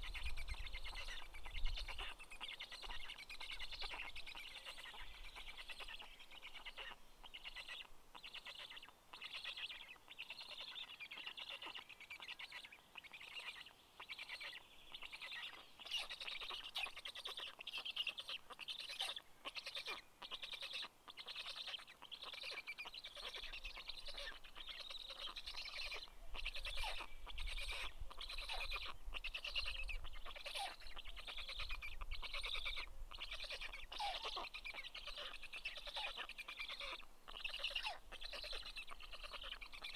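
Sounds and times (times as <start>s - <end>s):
stork chicks chattering calls: 0.0s - 39.9s.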